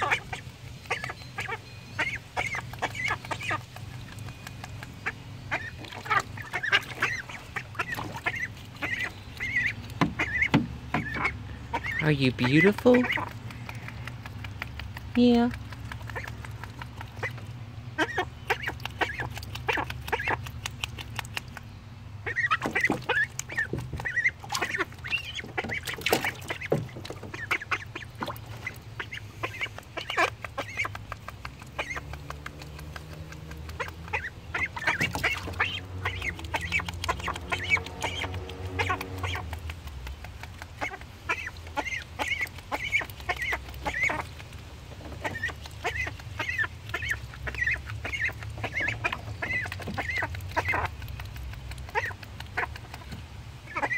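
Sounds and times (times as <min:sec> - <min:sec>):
ducklings peeping: 0:00.0 - 0:53.9
ducklings splashing in water: 0:00.0 - 0:53.9.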